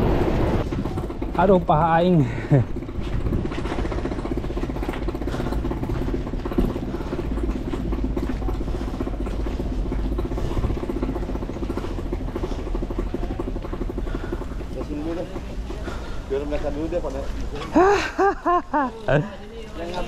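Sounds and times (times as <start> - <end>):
trolley wheels rattling on concrete: 0.0 - 20.0.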